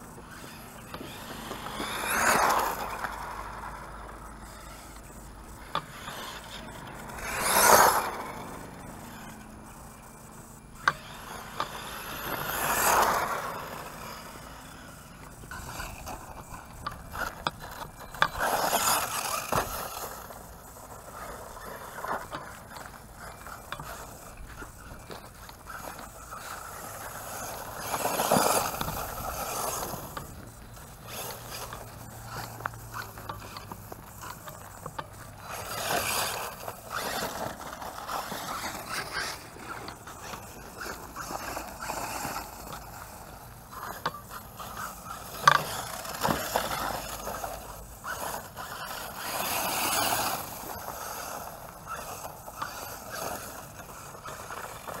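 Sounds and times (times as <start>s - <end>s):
drivetrain clicks and scraping: 0.0s - 55.0s
rc truck motor and gear whine: 0.0s - 55.0s.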